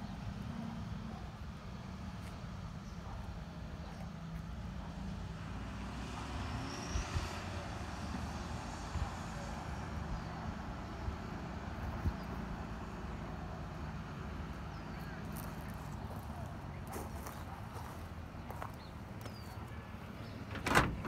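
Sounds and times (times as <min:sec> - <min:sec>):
passing traffic: 0:00.0 - 0:21.0
vehicle engine rumble: 0:00.0 - 0:21.0.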